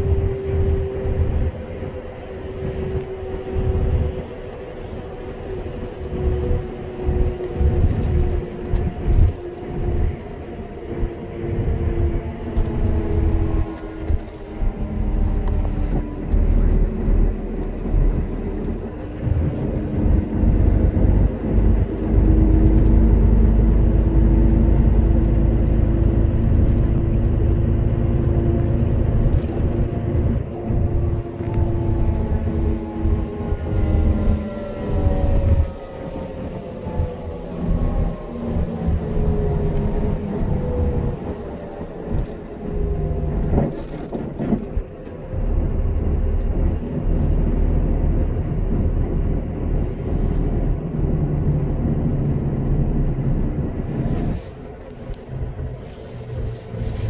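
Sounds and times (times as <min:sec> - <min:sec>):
vehicle road noise rumble: 0:00.0 - 0:57.0.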